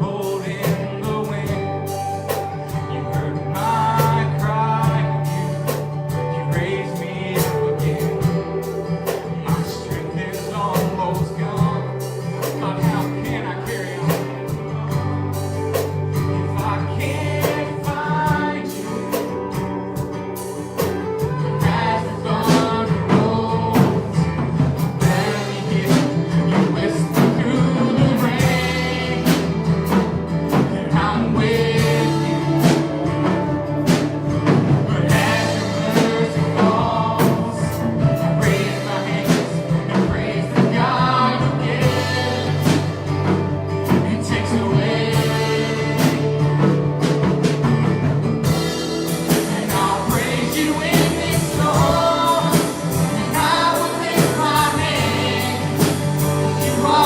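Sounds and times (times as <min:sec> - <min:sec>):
gospel song with sung vocals: 0:00.0 - 0:57.0
instrumental backing with beat: 0:00.0 - 0:57.0.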